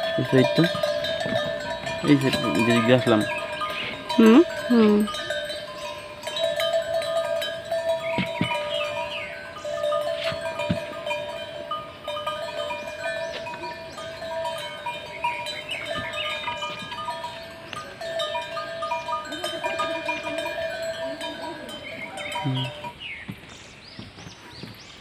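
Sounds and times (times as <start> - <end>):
cowbells clanking: 0.0 - 24.2.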